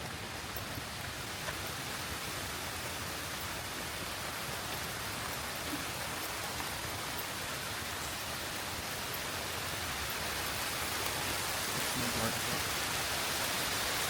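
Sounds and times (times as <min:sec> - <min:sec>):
rain on ground and foliage: 0:00.0 - 0:14.0.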